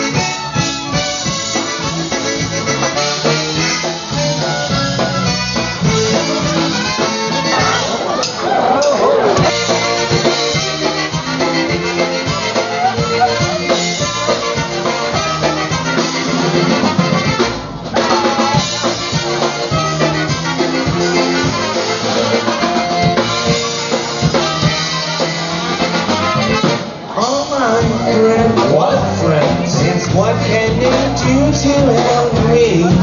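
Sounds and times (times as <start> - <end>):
trumpets: 0.0 - 28.4
bass: 0.0 - 33.0
drum kit beat: 0.0 - 33.0.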